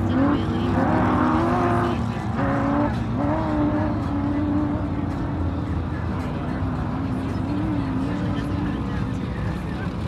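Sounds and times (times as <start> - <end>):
engines revving high: 0.0 - 10.0
low engine rumble: 0.0 - 10.0.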